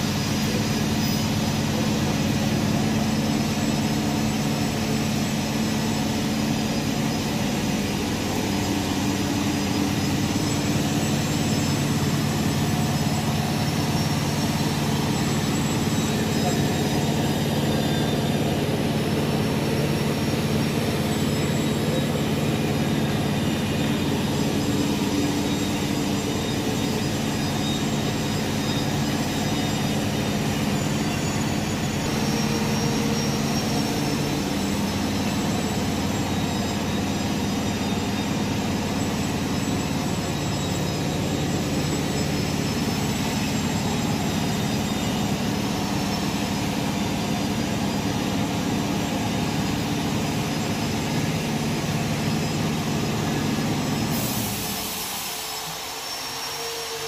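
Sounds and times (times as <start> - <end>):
faint high whine: 0.0 - 57.0
machinery humming: 0.0 - 57.0.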